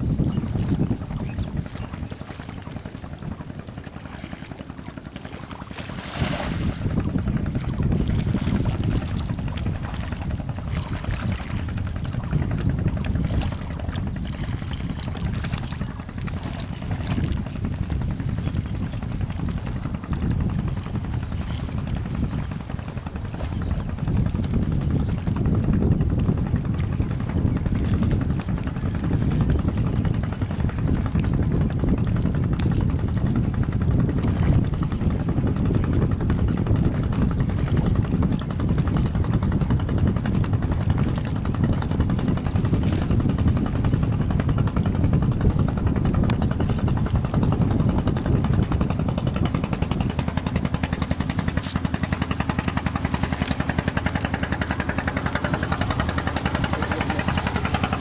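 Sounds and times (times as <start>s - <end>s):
engine running low: 0.0s - 58.0s.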